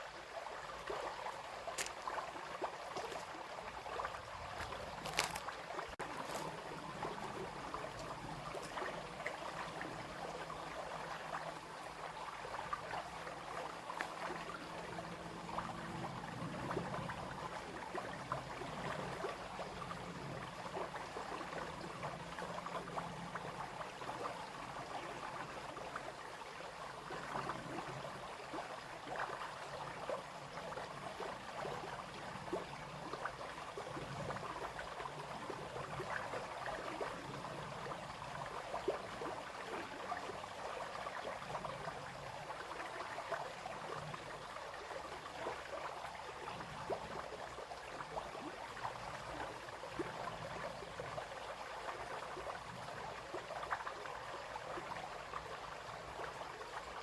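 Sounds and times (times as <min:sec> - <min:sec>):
brook water trickling: 0:00.0 - 0:57.0.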